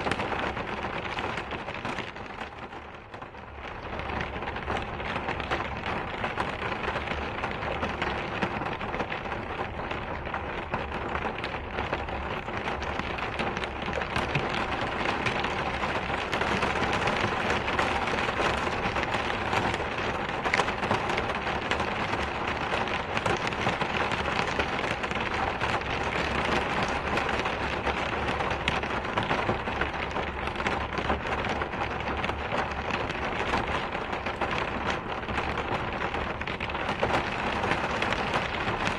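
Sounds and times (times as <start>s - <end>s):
raindrops pattering on a surface: 0.0s - 38.9s
steady rain: 0.0s - 38.9s.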